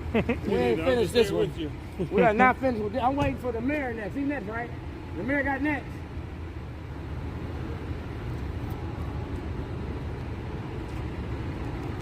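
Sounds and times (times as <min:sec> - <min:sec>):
motor vehicles rumbling: 0:00.0 - 0:12.0.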